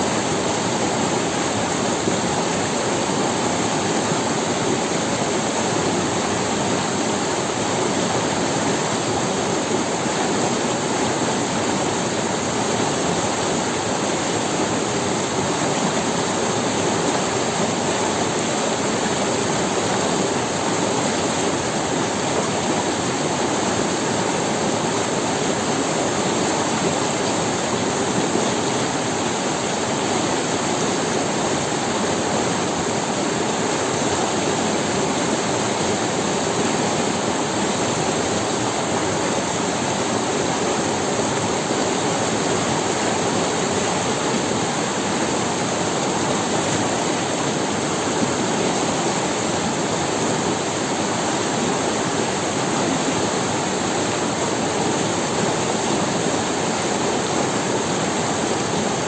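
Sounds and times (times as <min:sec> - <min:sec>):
river running over stones: 0:00.0 - 0:59.0.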